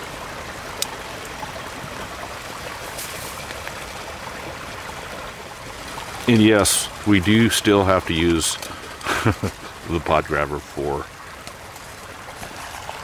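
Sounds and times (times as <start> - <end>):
water boiling in a pot: 0.0 - 13.0.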